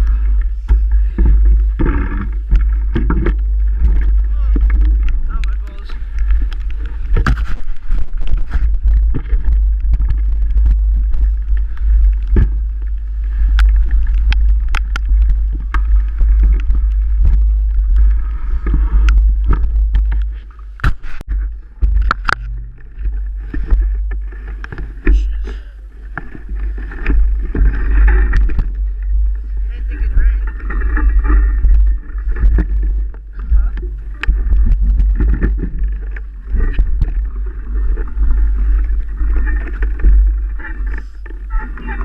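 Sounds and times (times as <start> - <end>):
bike knocking and rattling: 0.0 - 42.0
wind rumble on microphone: 0.0 - 42.0.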